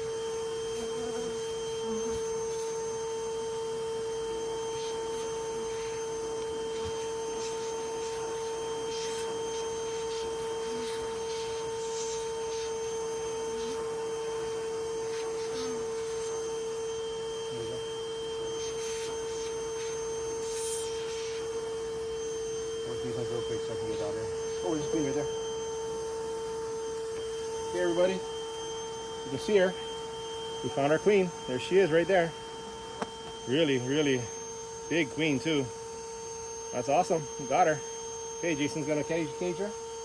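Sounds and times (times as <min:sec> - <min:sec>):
vacuum motor humming: 0:00.0 - 0:40.0.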